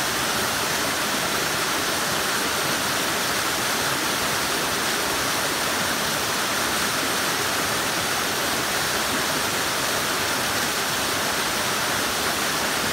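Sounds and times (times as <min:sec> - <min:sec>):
waterfall rushing and splashing: 0:00.0 - 0:12.9.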